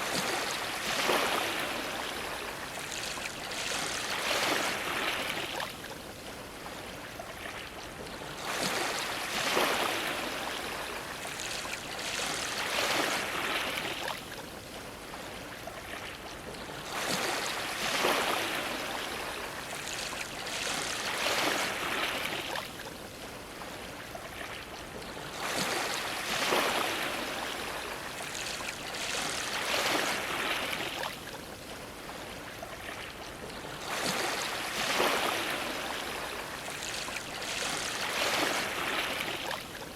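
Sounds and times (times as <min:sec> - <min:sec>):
ocean waves splashing against dock: 0:00.0 - 0:39.9.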